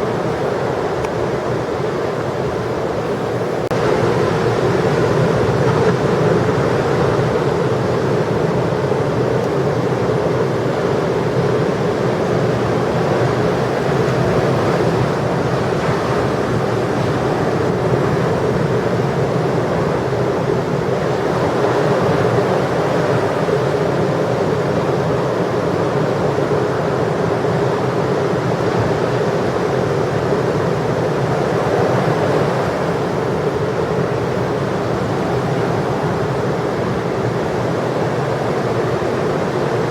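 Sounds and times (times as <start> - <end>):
ocean waves breaking: 0.0 - 39.9
wind on microphone: 0.0 - 39.9.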